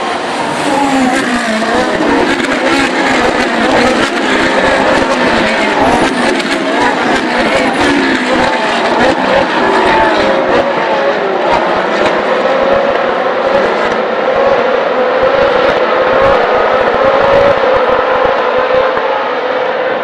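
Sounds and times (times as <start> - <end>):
race car engines at high revs: 0.0 - 20.0.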